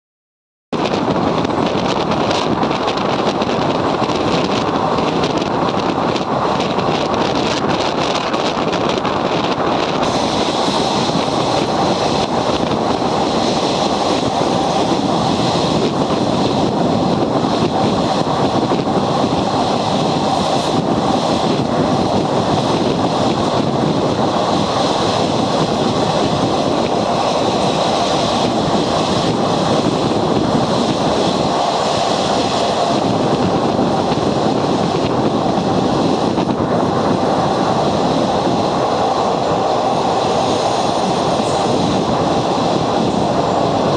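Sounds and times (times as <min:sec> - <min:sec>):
train running: 0:00.8 - 0:43.9.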